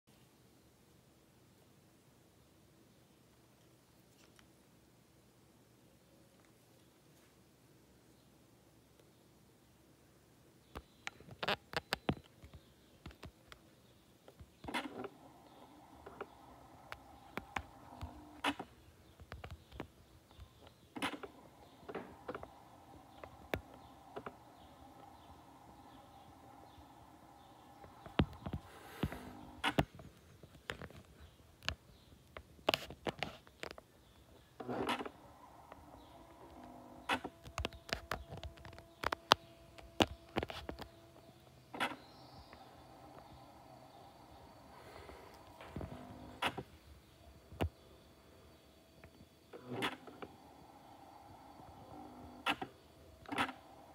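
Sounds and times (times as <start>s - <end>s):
faint steady hum: 0.1s - 53.9s.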